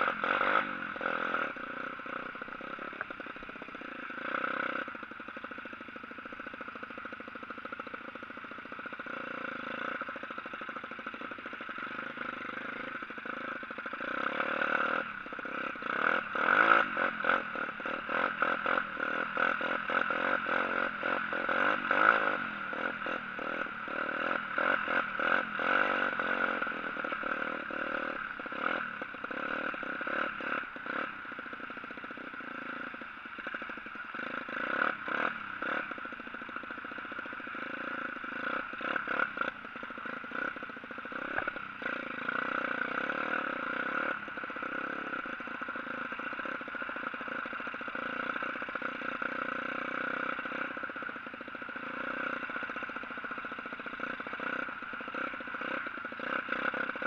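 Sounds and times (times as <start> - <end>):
pit bike engine running: 0.0 - 57.0.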